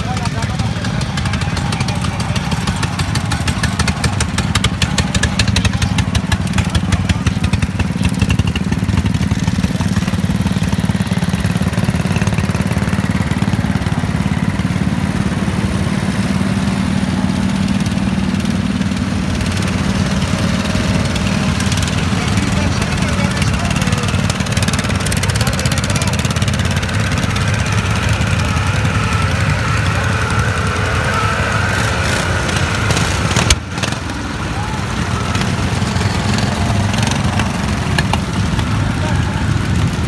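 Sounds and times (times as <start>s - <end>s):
close engine rapid firing beat: 0.0s - 40.0s
lawn mower engines idling: 0.0s - 40.0s.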